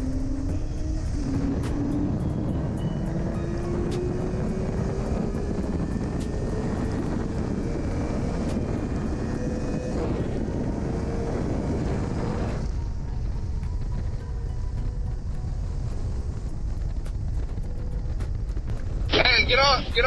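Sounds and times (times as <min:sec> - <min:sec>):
motorcycle engine accelerating: 0:00.0 - 0:19.4
wind rush on microphone: 0:00.0 - 0:20.0.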